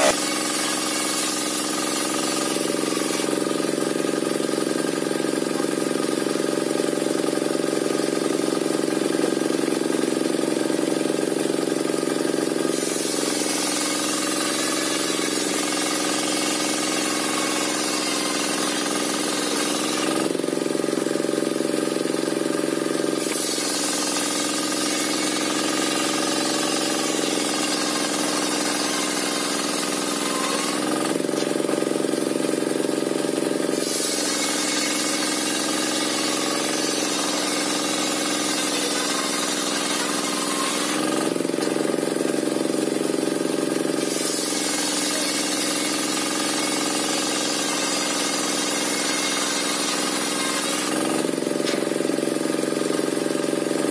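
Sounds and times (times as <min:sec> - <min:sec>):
saw blade cutting log: 0:00.0 - 0:53.7
sawmill engine running: 0:00.0 - 0:53.9.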